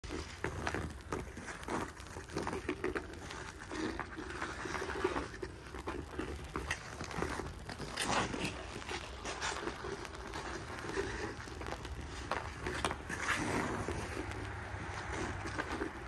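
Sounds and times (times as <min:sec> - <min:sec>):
skate blades scraping ice: 0:00.0 - 0:16.0.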